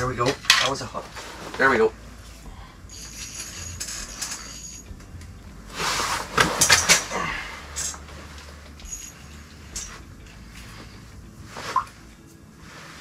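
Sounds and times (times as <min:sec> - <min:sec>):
clothing and folding chair rustling: 0:00.0 - 0:13.0.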